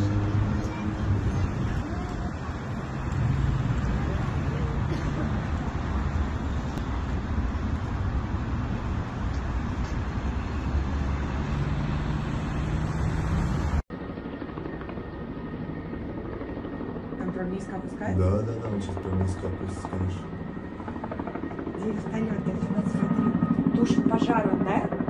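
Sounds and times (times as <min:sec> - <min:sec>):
helicopter flying overhead: 0:00.0 - 0:25.0
loud outdoor rumble: 0:00.0 - 0:25.0.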